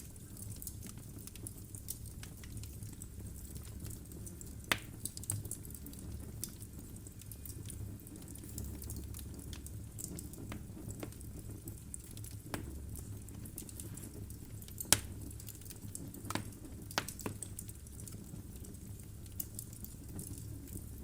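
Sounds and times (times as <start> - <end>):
burning logs crackling: 0.0 - 21.0
fire popping: 0.0 - 21.0
low fire rumble: 0.0 - 21.0.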